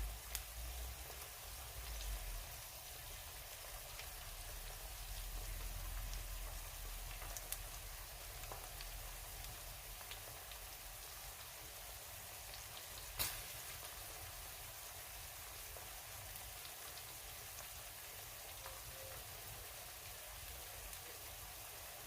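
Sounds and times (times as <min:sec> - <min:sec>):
oil popping and crackling: 0:00.0 - 0:19.7
meat sizzling in oil: 0:00.0 - 0:22.0.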